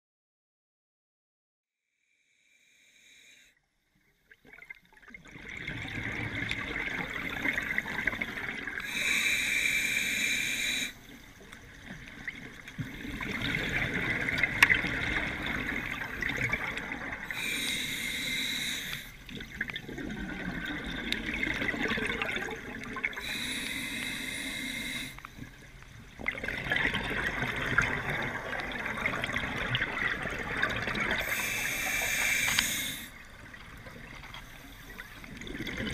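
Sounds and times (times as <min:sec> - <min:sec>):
steady water noise: 0:02.7 - 0:35.9
exhaled bubbles underwater: 0:04.3 - 0:35.9.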